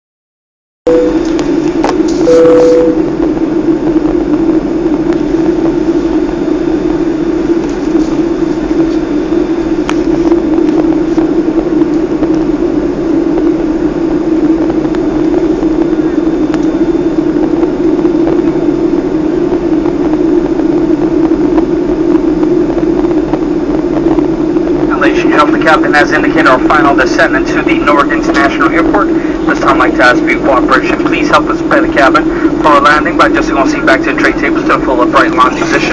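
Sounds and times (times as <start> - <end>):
airliner cabin engine rush: 0.9 - 35.9
constant droning hum: 0.9 - 35.9.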